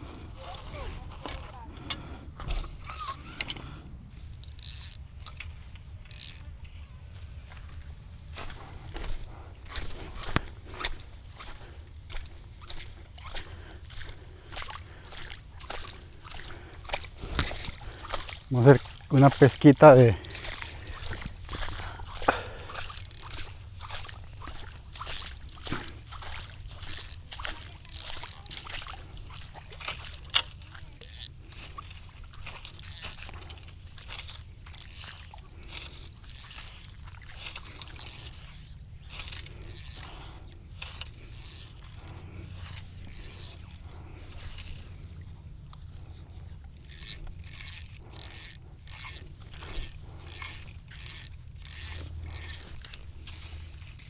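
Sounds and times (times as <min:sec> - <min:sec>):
insects buzzing and chirping: 0:00.0 - 0:54.0.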